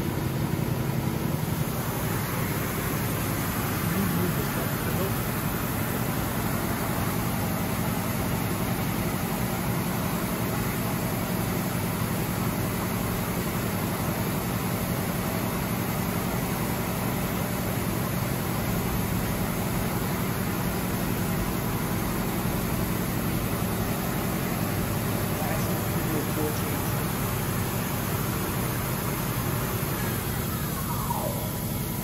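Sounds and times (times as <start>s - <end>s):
machine spindle hum and hiss: 0.0s - 32.0s.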